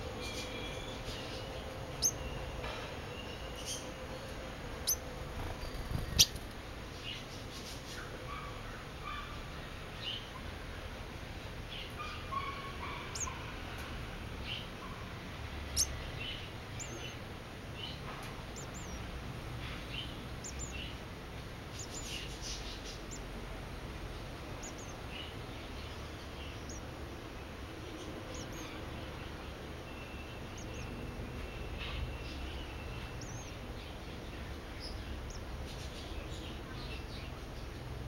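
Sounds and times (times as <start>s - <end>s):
small birds chirping: 0.0s - 38.0s
steady low hum: 0.0s - 38.0s.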